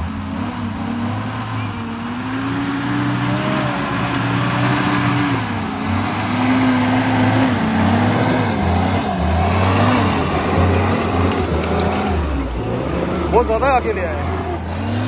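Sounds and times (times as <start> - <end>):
jeep engine working hard: 0.0 - 15.0.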